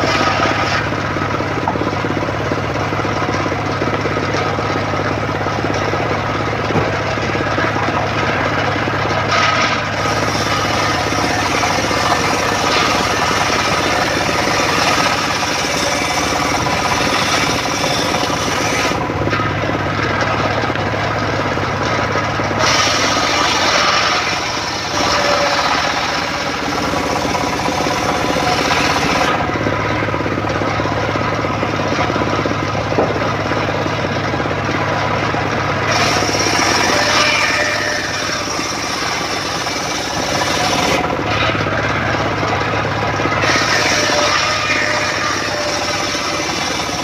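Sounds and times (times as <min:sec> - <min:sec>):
circular saw ripping wood: 0:00.0 - 0:47.0
engine running: 0:00.0 - 0:47.0.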